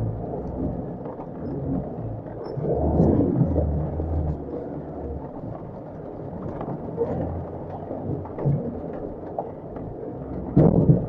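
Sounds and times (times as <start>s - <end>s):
rain on car body: 0.0s - 11.0s.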